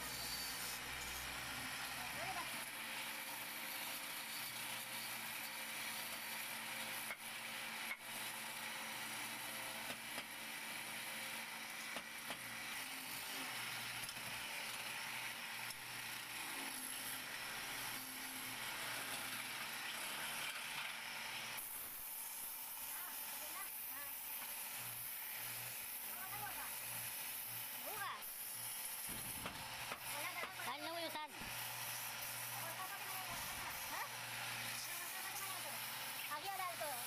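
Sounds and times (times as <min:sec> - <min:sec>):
chisel cutting wood shavings hiss: 0:00.0 - 0:07.2, 0:11.8 - 0:37.0
wood lathe motor hum: 0:00.0 - 0:37.0.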